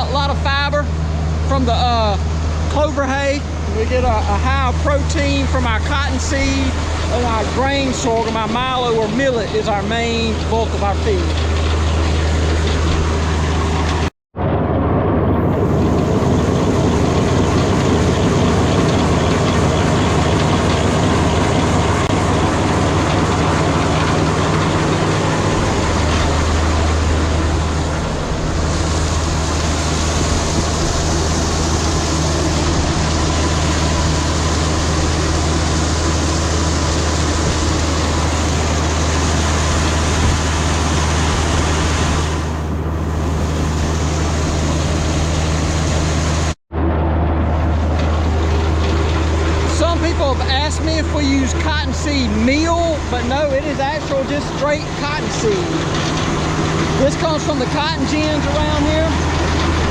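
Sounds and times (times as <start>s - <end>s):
feed mill machine drone: 0.0s - 59.9s.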